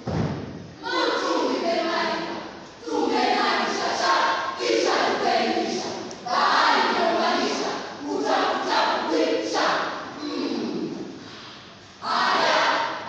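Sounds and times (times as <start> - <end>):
group of voices reciting in unison: 0.8 - 13.0.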